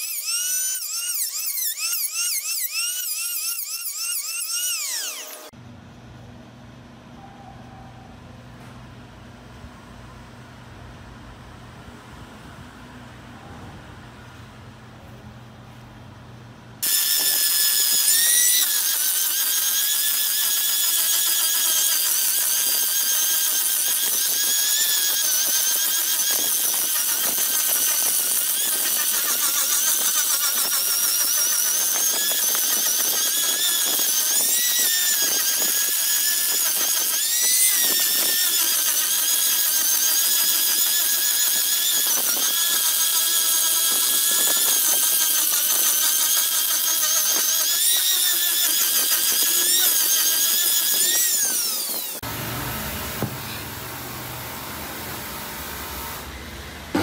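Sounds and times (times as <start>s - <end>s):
angle grinder sanding wood: 0.0s - 5.5s, 16.8s - 57.0s.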